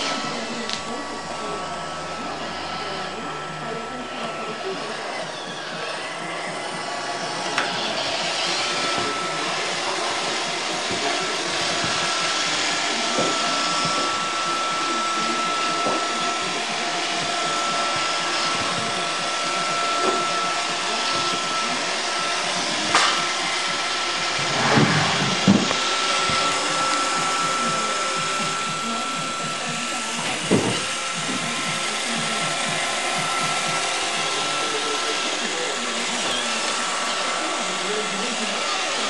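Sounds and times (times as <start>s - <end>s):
high constant whine: 0.0s - 37.2s
robot vacuum whirring: 0.0s - 39.0s.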